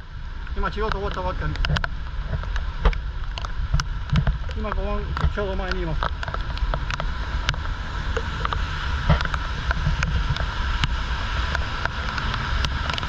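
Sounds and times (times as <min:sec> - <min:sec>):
wind buffeting microphone: 0:00.0 - 0:13.0
raindrops ticking on camera: 0:00.2 - 0:13.0.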